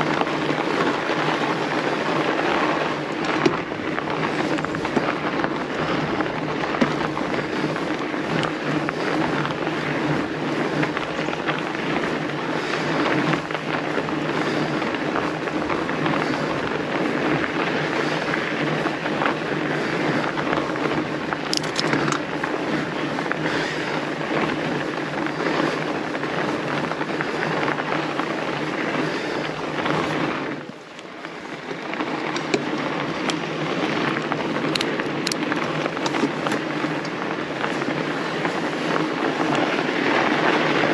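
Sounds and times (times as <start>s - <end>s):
bike tyres rolling over snow: 0.0s - 40.9s.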